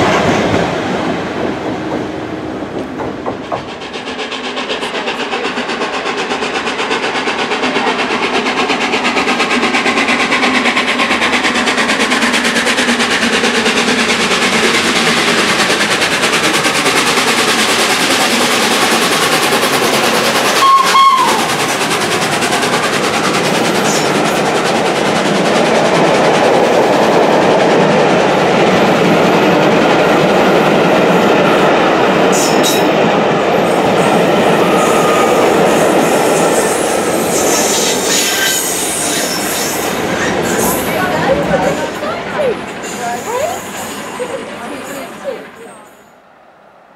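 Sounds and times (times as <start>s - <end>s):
train running on rails: 0.0s - 46.9s.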